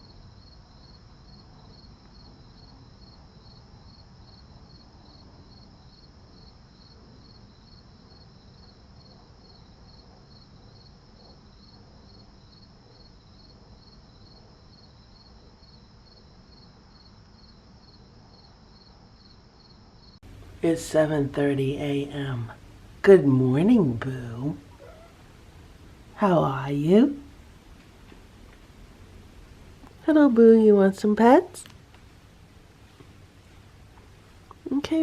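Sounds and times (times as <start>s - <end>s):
crickets chirping: 0.0s - 35.0s
high insect trill: 0.0s - 35.0s.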